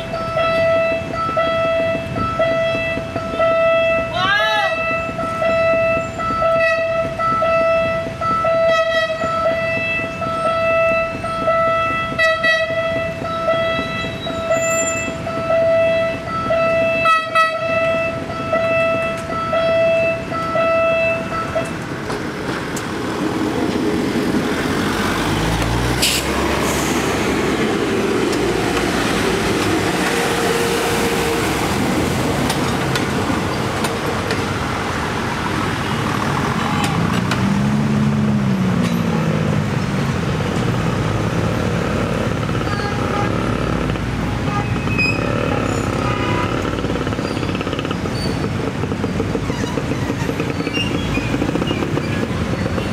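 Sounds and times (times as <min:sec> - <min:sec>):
train rumbling past: 0:05.0 - 0:52.9.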